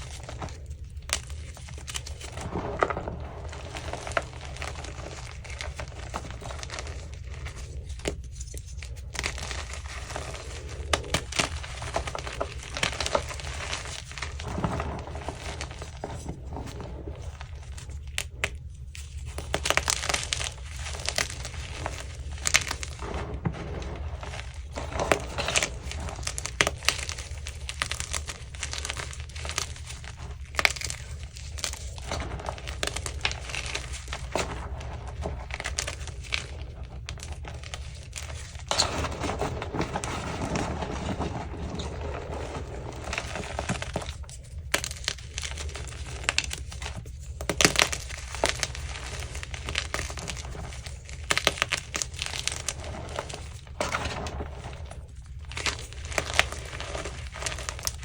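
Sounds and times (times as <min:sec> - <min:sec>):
chalk crunching and crackling: 0:00.0 - 0:58.0.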